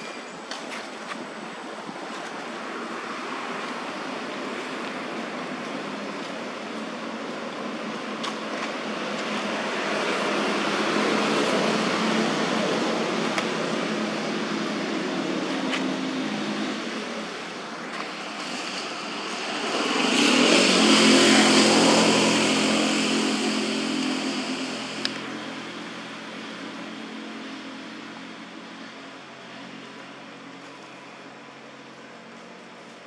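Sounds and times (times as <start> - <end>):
passing vehicle engine and tyres: 0.0 - 33.0.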